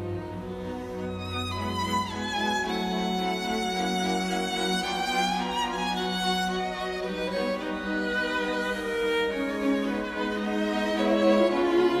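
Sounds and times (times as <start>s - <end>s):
slow bowed-string music: 0.0s - 12.0s.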